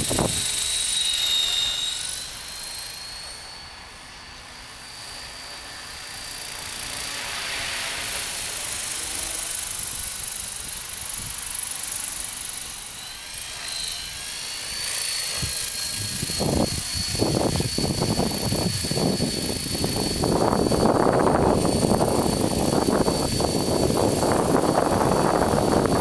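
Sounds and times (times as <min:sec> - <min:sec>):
model helicopter rotor whine: 0:00.0 - 0:26.0.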